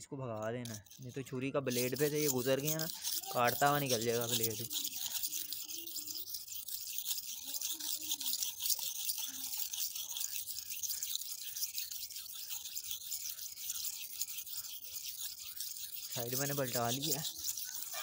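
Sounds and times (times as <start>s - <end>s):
knife scraping on sharpening stone: 0.4s - 18.0s.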